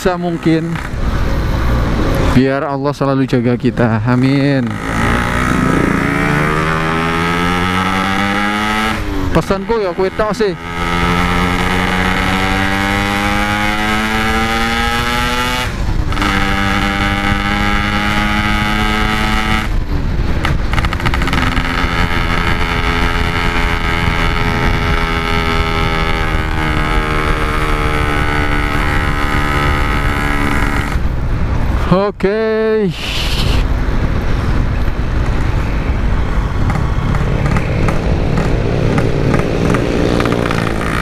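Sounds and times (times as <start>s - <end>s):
motorcycle engine running: 4.0s - 31.4s, 34.0s - 41.0s.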